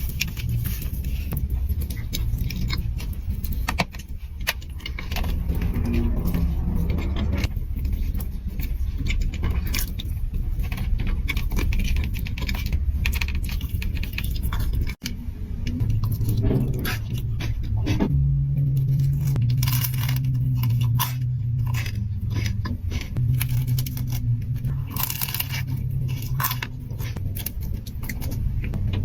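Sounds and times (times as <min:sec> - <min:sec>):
chewing and mouth noises: 0:00.0 - 0:28.8
sharp clicks and crackles: 0:00.0 - 0:29.0.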